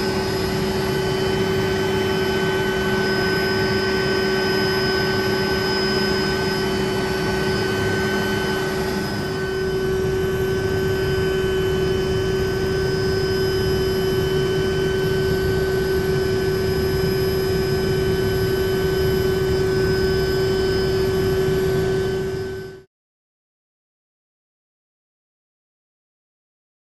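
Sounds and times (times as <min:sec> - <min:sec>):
helicopter cabin drone: 0:00.0 - 0:22.9.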